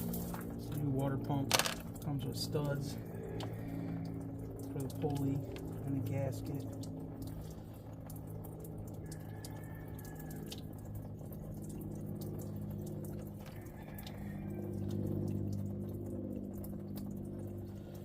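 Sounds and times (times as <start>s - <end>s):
coolant dripping into a can: 0.0s - 18.0s
steady low hum: 0.0s - 18.0s.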